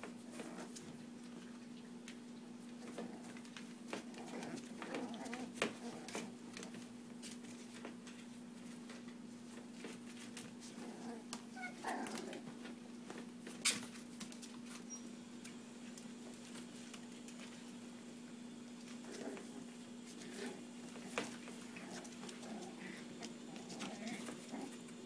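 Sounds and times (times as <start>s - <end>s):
paws clicking on hard floor: 0.0s - 14.9s, 18.8s - 25.0s.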